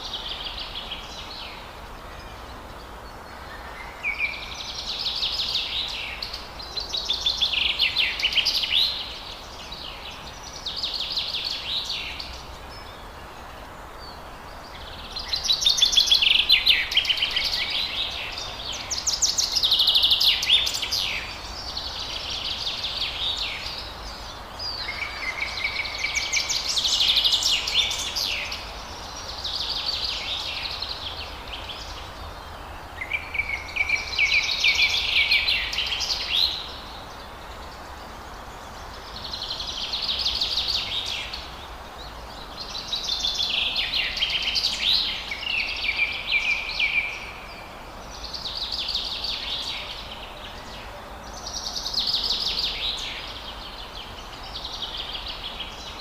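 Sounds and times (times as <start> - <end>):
forest ambience hiss: 0.0 - 56.0.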